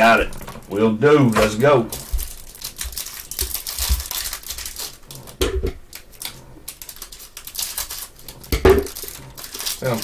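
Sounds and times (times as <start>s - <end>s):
plastic wrapper crackling: 0.0s - 10.0s.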